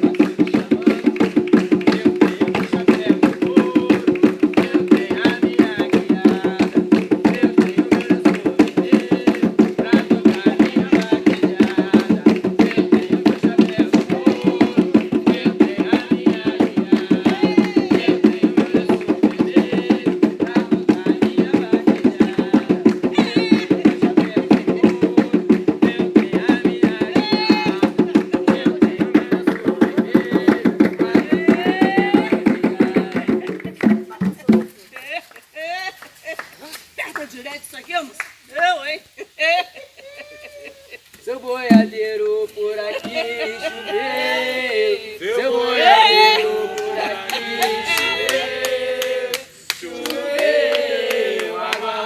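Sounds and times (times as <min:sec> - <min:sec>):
hand drums playing fast rhythm: 0:00.0 - 0:35.3, 0:41.6 - 0:44.8, 0:45.4 - 0:49.4.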